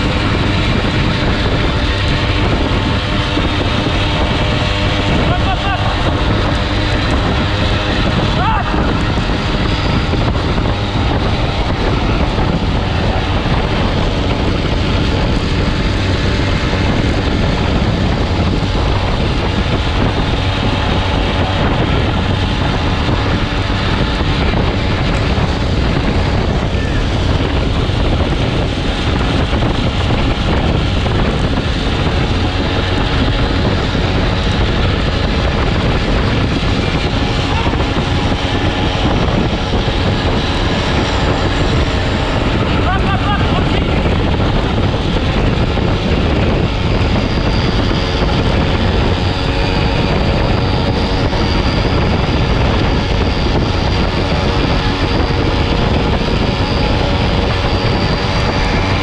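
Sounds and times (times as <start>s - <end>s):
small motorbike engine running: 0.0s - 59.0s
wind noise on microphone: 0.0s - 59.0s.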